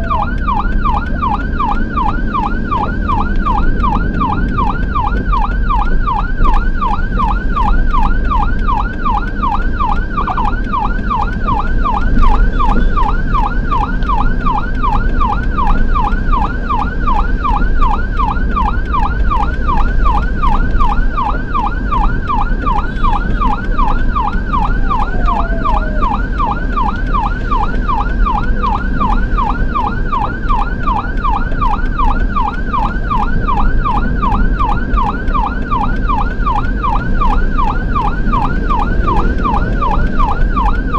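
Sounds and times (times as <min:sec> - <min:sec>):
ambulance siren yelping: 0:00.0 - 0:40.9
engine rumble: 0:00.0 - 0:40.9
tyres on wet road: 0:00.0 - 0:40.9.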